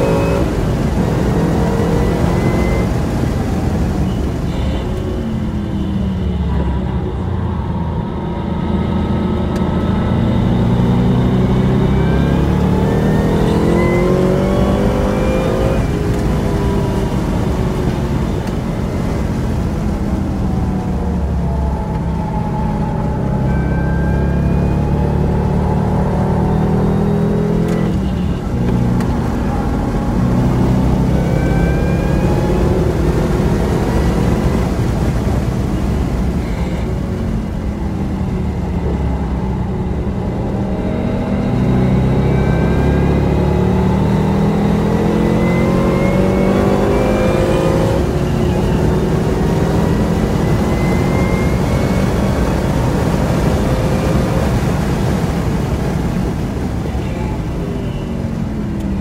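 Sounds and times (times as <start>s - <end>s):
car engine accelerating hard: 0.0s - 4.7s, 5.7s - 59.0s.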